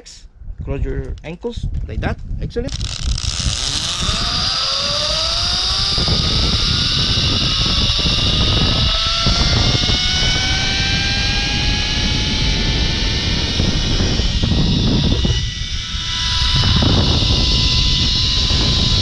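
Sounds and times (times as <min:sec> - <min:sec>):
wind rumble on microphone: 0:00.0 - 0:19.0
pulley wheels whining on cable: 0:02.7 - 0:19.0.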